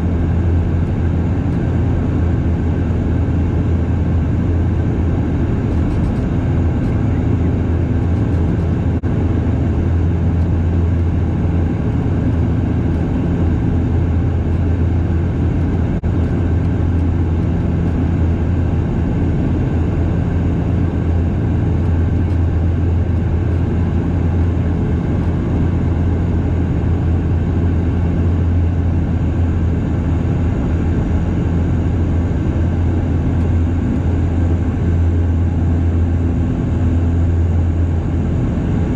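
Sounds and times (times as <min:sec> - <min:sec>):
propeller drone and engine hum: 0:00.0 - 0:38.9.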